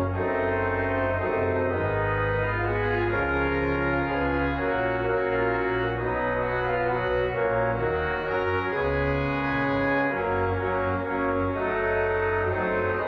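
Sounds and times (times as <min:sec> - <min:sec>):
hymn played on an organ: 0:00.0 - 0:13.0.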